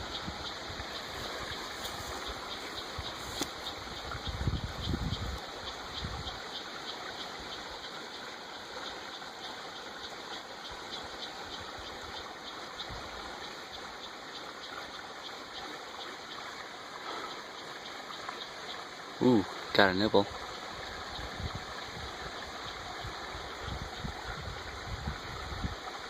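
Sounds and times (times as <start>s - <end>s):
creek water running: 0.0s - 26.0s.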